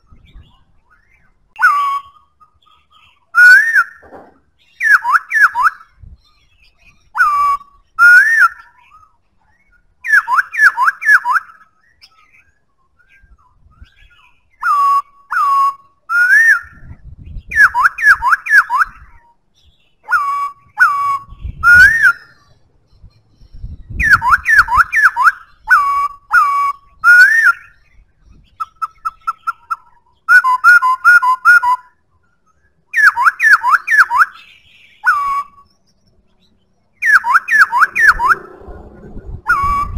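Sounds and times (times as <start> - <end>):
bird singing whistled phrases: 0.0 - 4.0, 4.6 - 38.5, 39.4 - 39.9.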